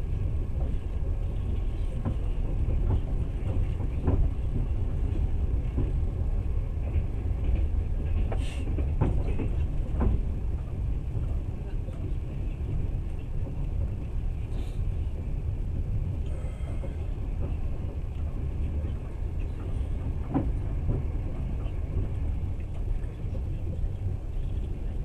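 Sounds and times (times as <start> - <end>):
train carriage rumbling on rails: 0.0 - 25.0.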